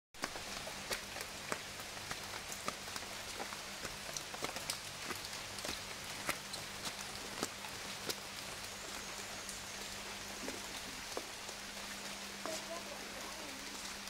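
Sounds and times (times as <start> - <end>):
raindrops landing close by: 0.2 - 14.0
steady rain hiss: 0.2 - 14.0.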